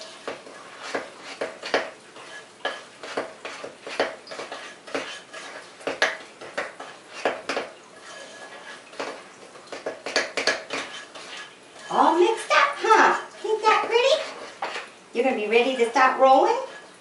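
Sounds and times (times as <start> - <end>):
spoon stirring batter in bowl: 0.0 - 17.0.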